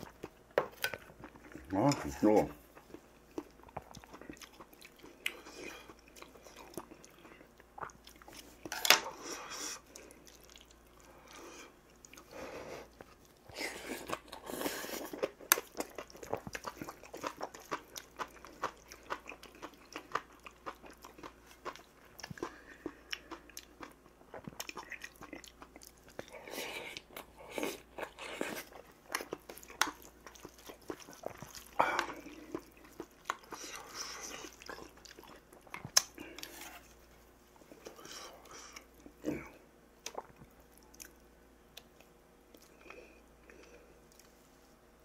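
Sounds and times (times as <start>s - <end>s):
person chewing food: 0.0s - 44.4s.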